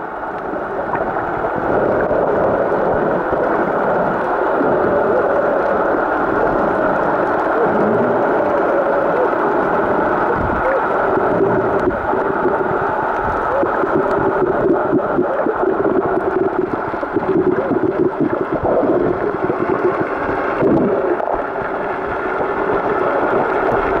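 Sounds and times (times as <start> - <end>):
muffled underwater rushing: 0.0 - 24.0.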